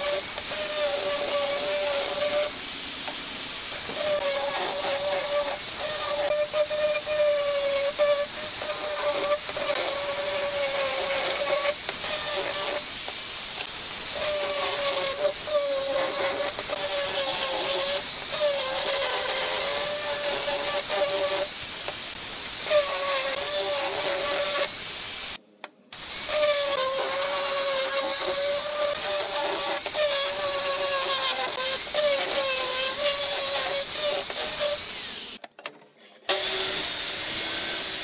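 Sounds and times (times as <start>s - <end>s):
sanding disc hissing on wood: 0.0s - 25.4s, 26.0s - 35.4s.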